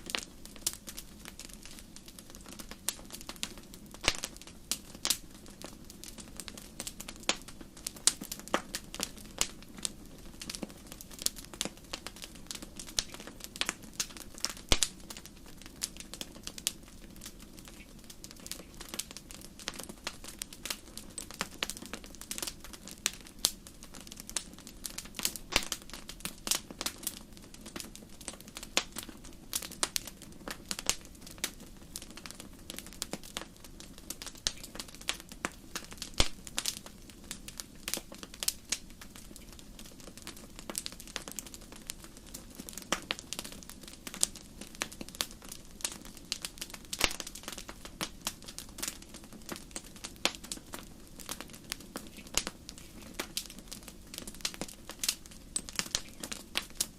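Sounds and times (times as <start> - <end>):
low hiss of burning: 0.0 - 56.9
wood fire crackling and popping: 0.0 - 56.9.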